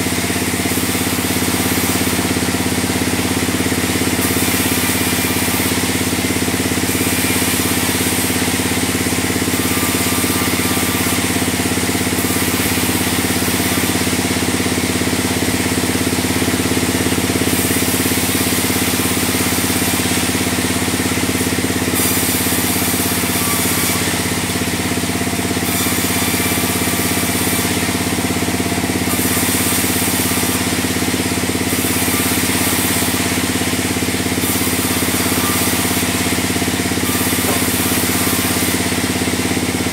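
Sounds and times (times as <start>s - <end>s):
band sawmill drone: 0.0s - 39.9s
hiss of sawing logs: 0.0s - 39.9s.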